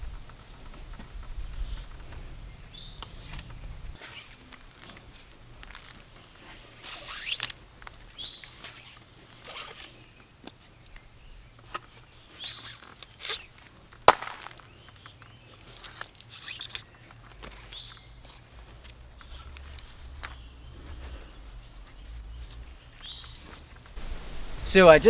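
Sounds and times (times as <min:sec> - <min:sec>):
cord rustling and rubbing: 0:00.0 - 0:24.0.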